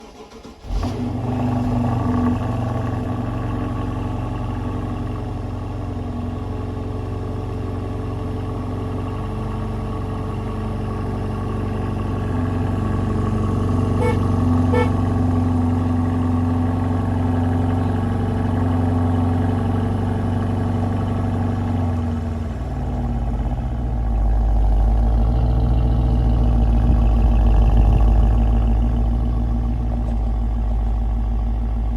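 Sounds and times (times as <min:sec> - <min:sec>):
car engine idling: 0:01.8 - 0:31.9.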